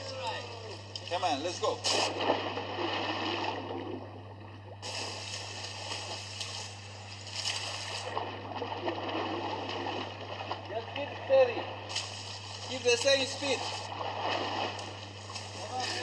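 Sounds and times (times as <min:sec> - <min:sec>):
pool water splashing: 0:00.0 - 0:16.0
steady low hum: 0:00.0 - 0:16.0.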